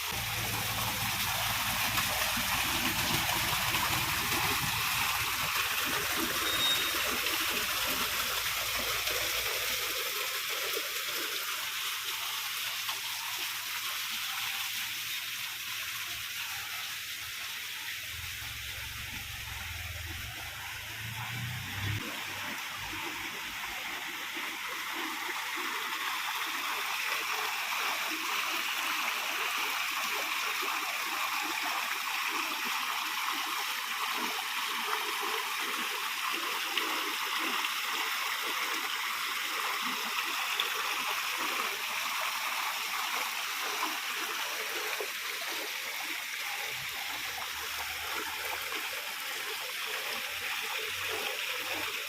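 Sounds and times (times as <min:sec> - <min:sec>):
water splashing down waterfall: 0:00.0 - 0:52.0.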